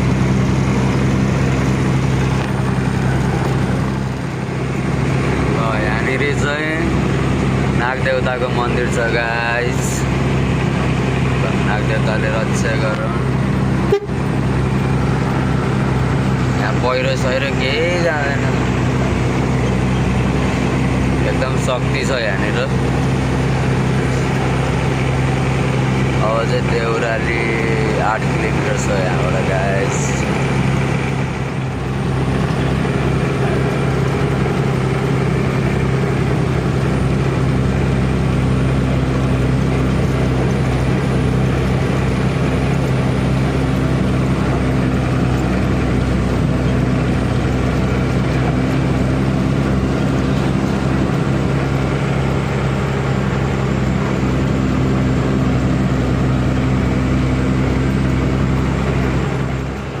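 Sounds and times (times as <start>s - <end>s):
diesel truck engine droning: 0.0s - 60.0s
road and cab noise: 0.0s - 60.0s.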